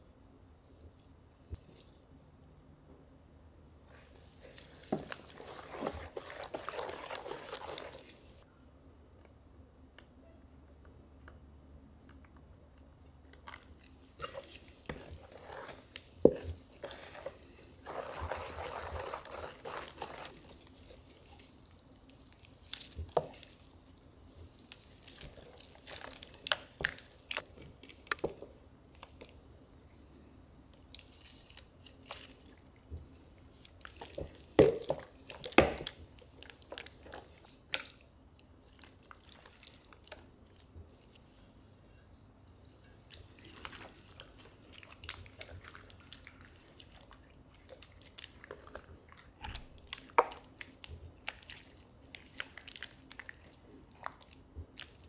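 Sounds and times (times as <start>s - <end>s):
wet food being mixed: 3.9s - 8.5s, 12.0s - 29.4s, 30.7s - 55.0s.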